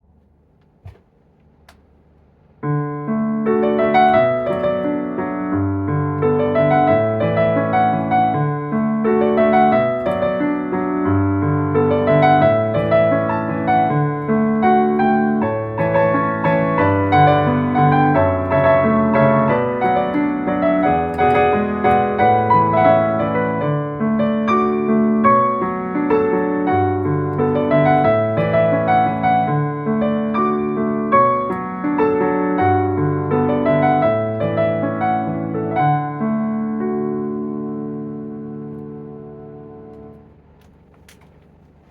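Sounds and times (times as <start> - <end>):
gentle piano music: 2.6 - 40.6.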